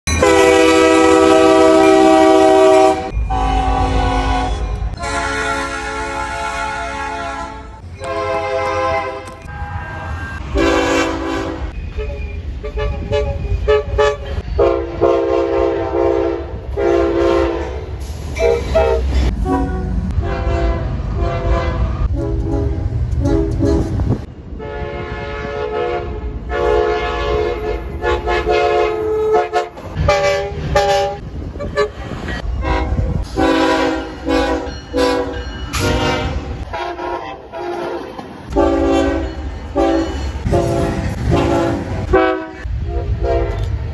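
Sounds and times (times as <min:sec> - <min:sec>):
train horn chord blasts: 0:00.1 - 0:17.8, 0:18.4 - 0:31.9, 0:32.6 - 0:43.7
low rumble of trains: 0:00.1 - 0:43.9.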